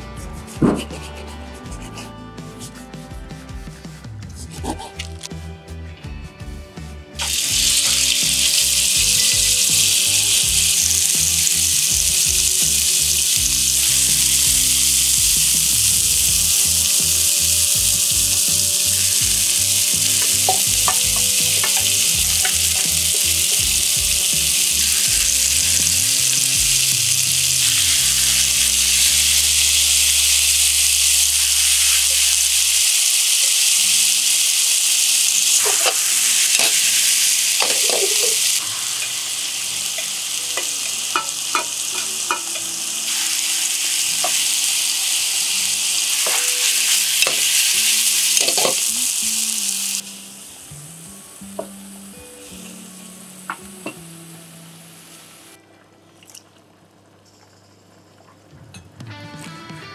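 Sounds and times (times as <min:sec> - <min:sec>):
food sizzling in hot oil: 0:07.2 - 0:55.6.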